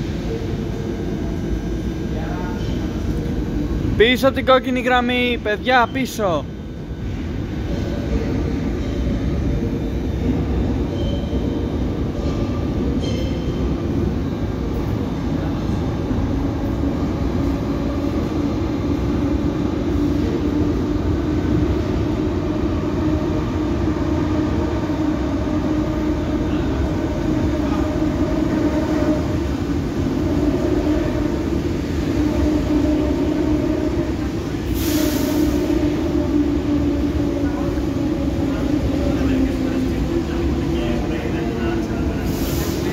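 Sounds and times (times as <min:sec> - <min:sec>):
train humming tone: 0:00.0 - 0:42.9
train rail rumble: 0:00.0 - 0:42.9.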